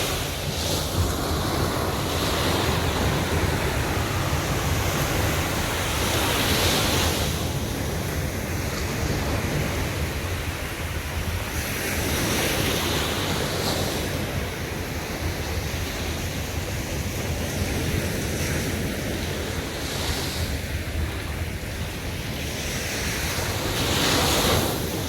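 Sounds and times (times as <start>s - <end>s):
sea waves breaking on beach: 0.0s - 25.0s
wind on microphone: 0.0s - 25.0s.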